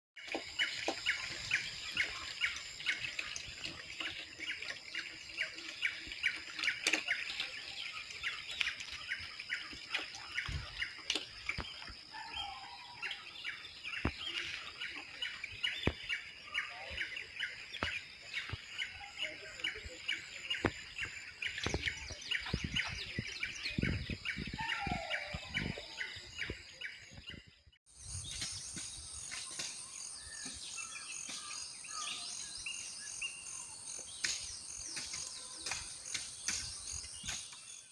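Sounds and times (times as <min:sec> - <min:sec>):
bird chirping: 0:00.2 - 0:37.9
low warbling bird calls: 0:00.2 - 0:37.9.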